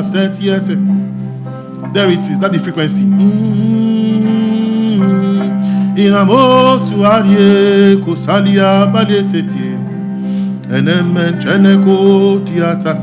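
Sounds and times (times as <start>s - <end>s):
man singing wordless phrases: 0.0s - 0.9s, 1.9s - 9.9s, 10.6s - 13.0s.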